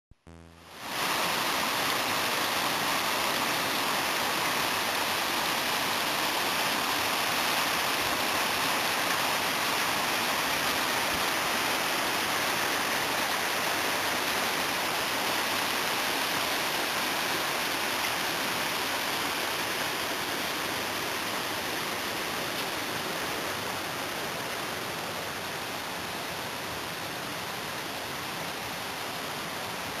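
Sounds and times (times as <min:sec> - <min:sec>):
stream flowing over rocks: 0:00.6 - 0:30.0.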